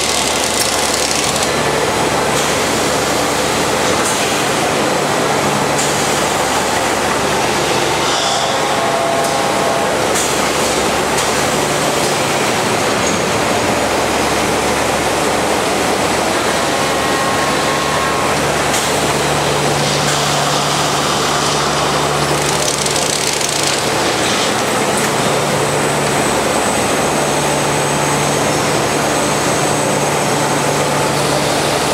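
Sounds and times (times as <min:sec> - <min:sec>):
production-line machinery din: 0:00.0 - 0:31.9.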